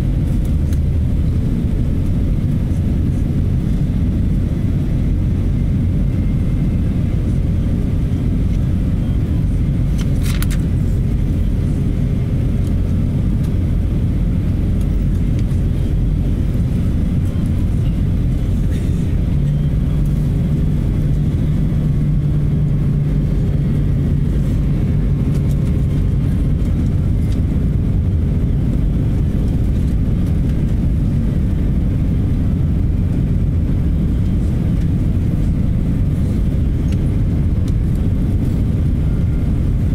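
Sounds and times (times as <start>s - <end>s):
low hum: 0.0s - 39.9s
low rumble of jet engines: 0.0s - 39.9s.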